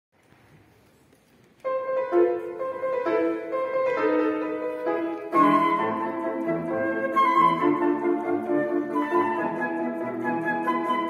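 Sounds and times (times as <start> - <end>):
flute playing: 1.7 - 11.0
piano playing: 1.7 - 11.0.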